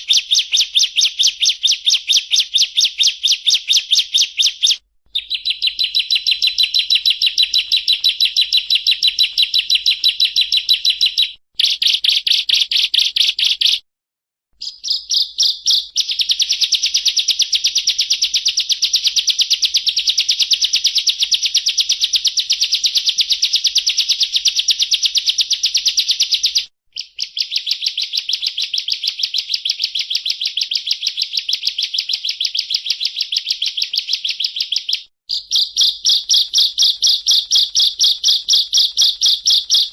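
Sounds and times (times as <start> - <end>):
bird singing rapid trill: 0.0 - 13.8, 14.6 - 39.9.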